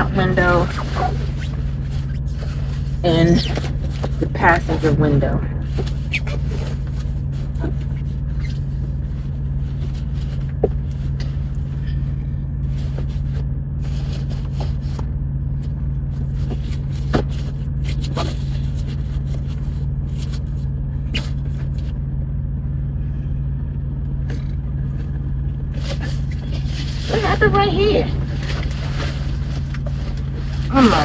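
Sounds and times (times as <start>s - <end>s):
rustling and crinkling of window covering: 0.0s - 15.0s, 16.1s - 21.9s, 25.7s - 31.0s
truck engine idling: 0.0s - 31.0s.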